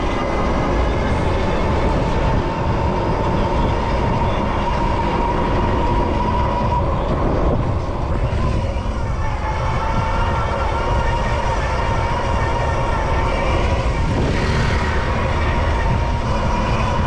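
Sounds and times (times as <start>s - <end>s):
street traffic noise: 0.0s - 17.0s
wind rumble: 0.0s - 17.0s.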